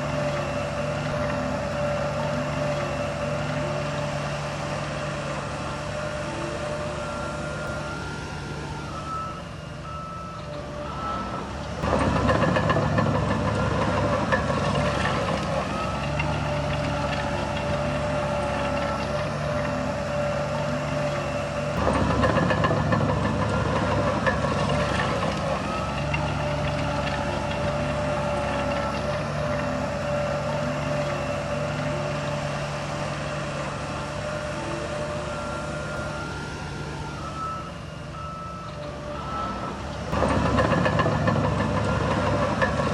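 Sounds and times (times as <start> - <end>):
heavy diesel machinery engine: 0.0 - 42.9
reversing alarm beeping: 0.0 - 42.9.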